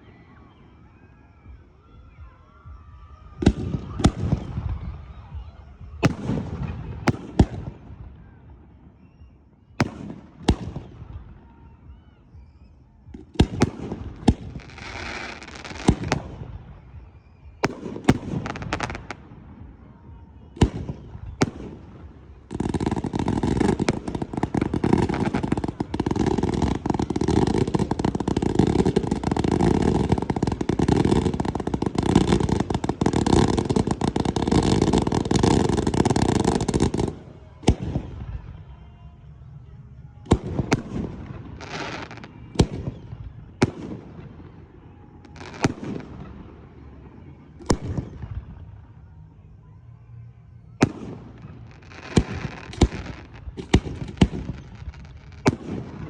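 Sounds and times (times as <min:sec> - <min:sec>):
fireworks bangs and crackle: 0:00.0 - 0:49.0, 0:50.8 - 0:56.0
rapid fireworks barrage: 0:03.1 - 0:08.4, 0:13.1 - 0:38.8, 0:40.2 - 0:49.0, 0:50.8 - 0:56.0.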